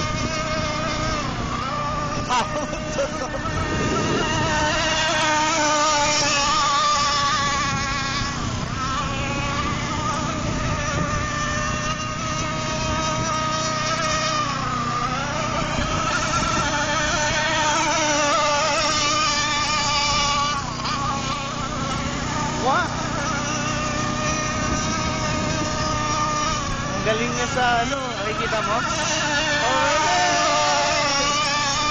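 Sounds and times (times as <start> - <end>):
model boat motor whining: 0.0 - 31.9.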